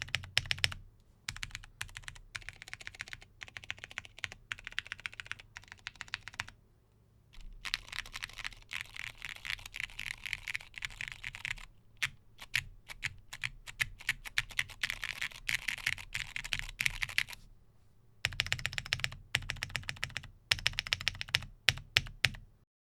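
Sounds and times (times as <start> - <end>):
mechanical keyboard typing: 0.0 - 6.6, 7.4 - 17.4, 18.2 - 22.5.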